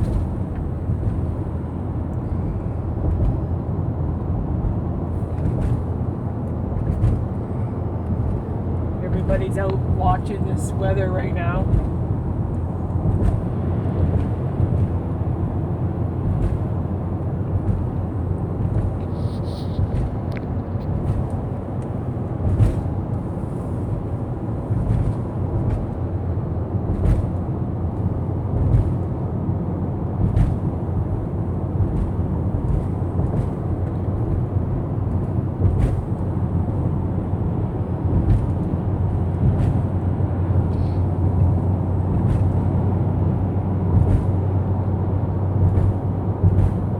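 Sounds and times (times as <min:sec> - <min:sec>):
car road and engine noise: 0:00.0 - 0:46.9.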